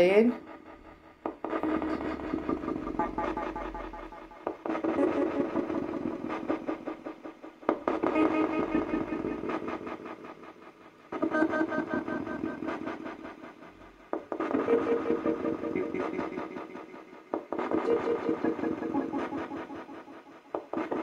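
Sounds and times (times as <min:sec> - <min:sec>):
chopped echoing noise and tones: 0:00.0 - 0:21.0.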